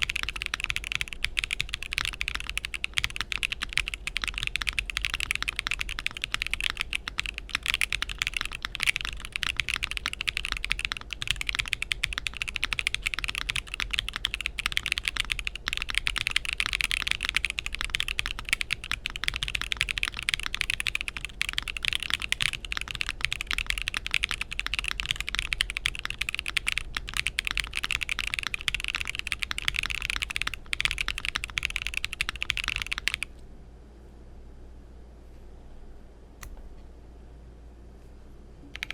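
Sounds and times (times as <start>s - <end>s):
fast typing on mechanical keyboard: 0.0s - 33.3s.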